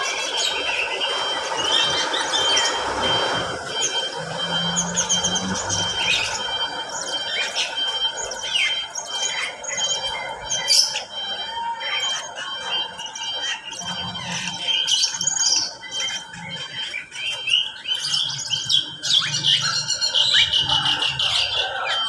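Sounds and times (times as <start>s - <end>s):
birds chattering and squawking: 0.0s - 22.0s.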